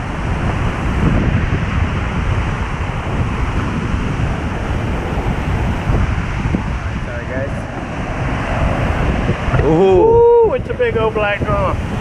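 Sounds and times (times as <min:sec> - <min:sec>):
surf breaking on sand: 0:00.0 - 0:12.0
wind buffeting microphone: 0:00.0 - 0:12.0.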